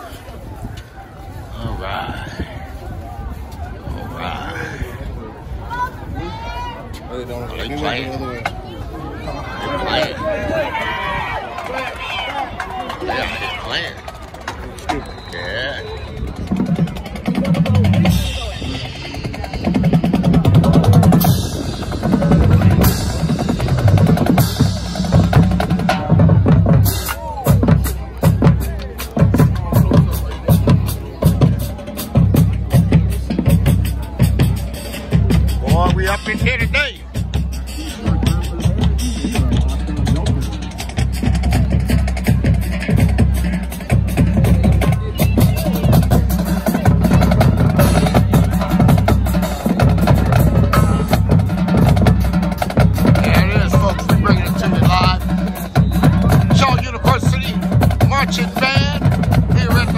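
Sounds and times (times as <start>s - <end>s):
marching drums beating: 11.5s - 59.9s.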